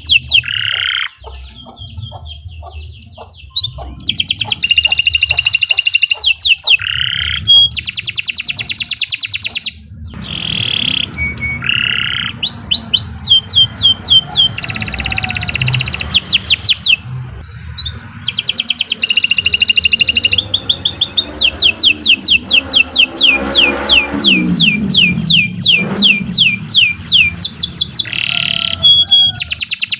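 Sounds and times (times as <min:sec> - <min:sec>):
canary singing trills: 0:00.0 - 0:29.9.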